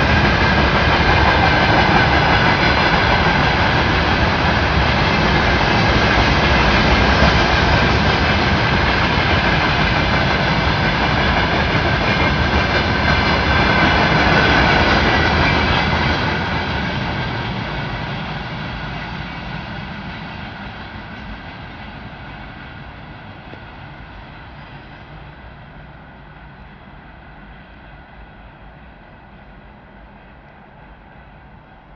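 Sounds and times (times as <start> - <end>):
freight train rumbling on rails: 0.0 - 31.9.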